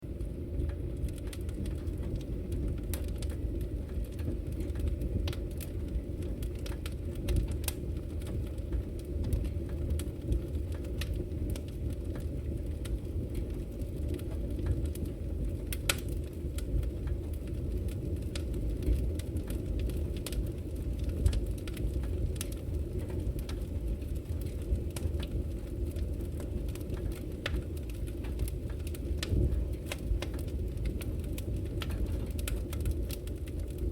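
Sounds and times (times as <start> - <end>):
fire burning in a fireplace: 0.0 - 33.9
fire crackling and popping: 0.0 - 33.9.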